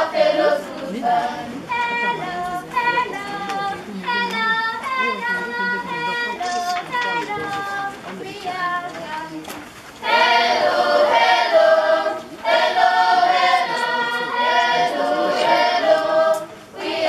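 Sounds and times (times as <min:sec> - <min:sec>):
group of students singing: 0:00.0 - 0:08.9, 0:10.0 - 0:17.0.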